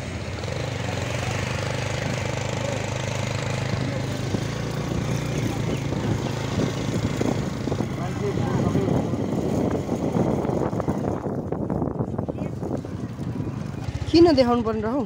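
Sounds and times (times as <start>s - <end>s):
motorcycle engine running: 0.0s - 15.0s
street noise: 0.0s - 15.0s
wind rushing over microphone: 0.0s - 15.0s.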